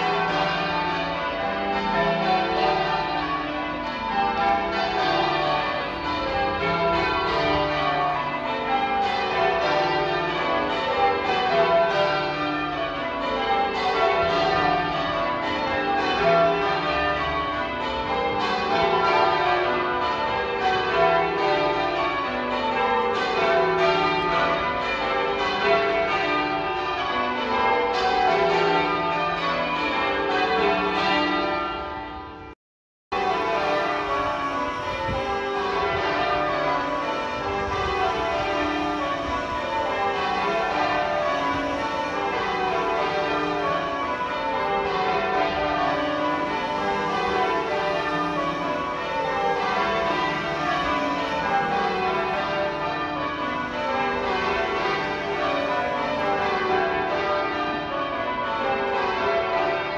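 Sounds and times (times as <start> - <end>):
church bells change ringing: 0.0 - 59.9.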